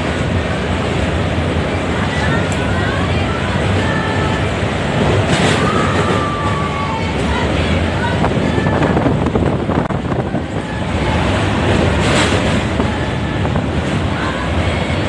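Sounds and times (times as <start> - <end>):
train wheels rumbling on track: 0.0 - 15.0
wind buffeting microphone: 0.0 - 15.0.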